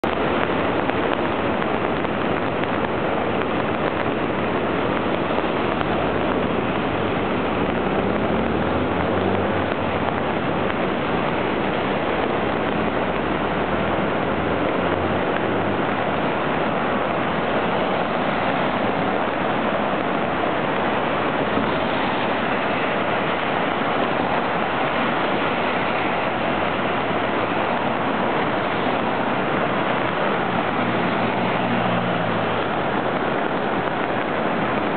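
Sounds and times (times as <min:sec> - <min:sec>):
rushing white water roar: 0:00.0 - 0:34.9.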